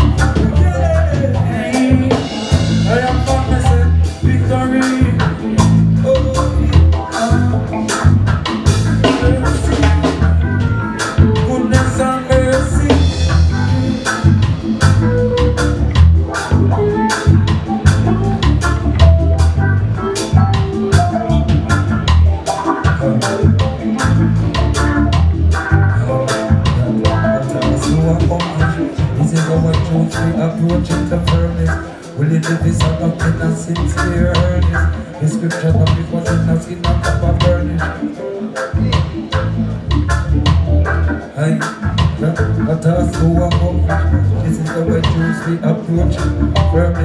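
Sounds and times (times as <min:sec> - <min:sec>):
drum kit steady beat: 0:00.0 - 0:47.0
heavy bass line: 0:00.0 - 0:47.0
reggae band playing: 0:00.0 - 0:47.0.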